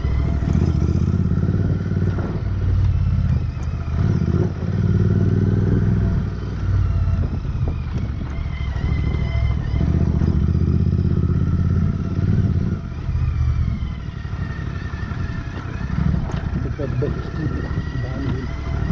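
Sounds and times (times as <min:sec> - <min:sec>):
motorcycle engine at low revs: 0:00.0 - 0:18.9
motorcycle rattles and clicks: 0:00.0 - 0:18.9.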